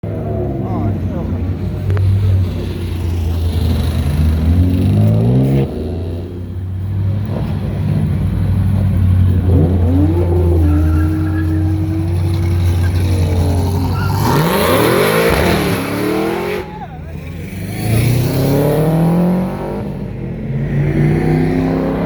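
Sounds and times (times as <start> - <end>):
car engine revving: 0.0 - 22.0
engines idling: 0.1 - 19.0.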